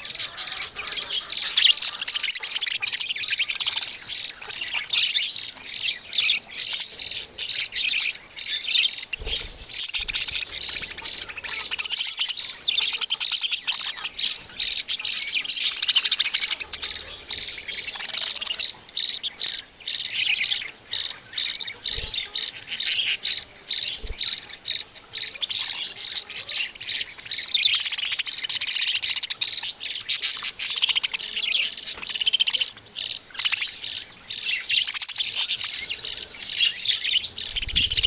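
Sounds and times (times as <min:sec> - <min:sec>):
budgie chicks chirping: 0:00.0 - 0:38.0.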